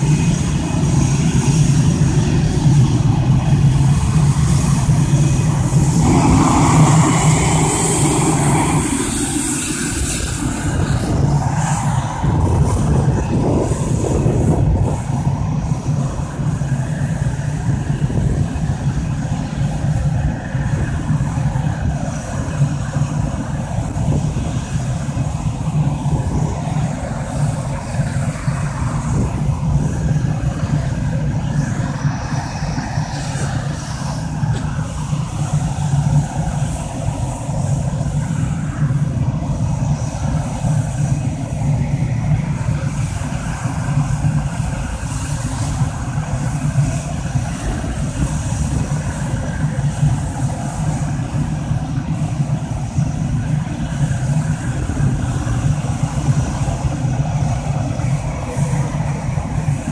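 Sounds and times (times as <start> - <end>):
jet engines roaring with high whine: 0.0 - 59.9.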